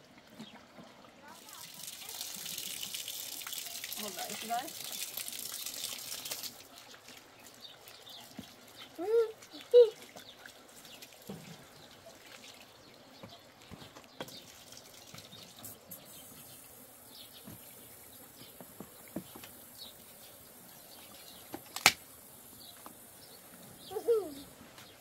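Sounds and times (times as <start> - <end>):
hose water trickling on boards: 0.0 - 25.0.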